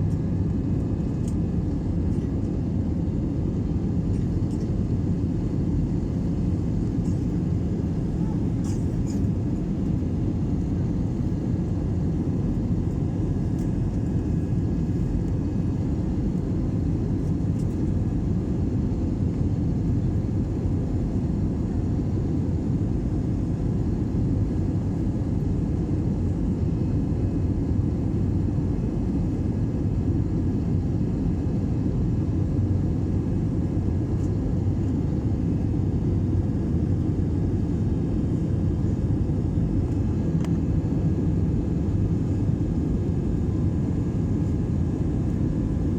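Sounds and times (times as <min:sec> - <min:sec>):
aeroplane engines rumbling: 0:00.0 - 0:45.9.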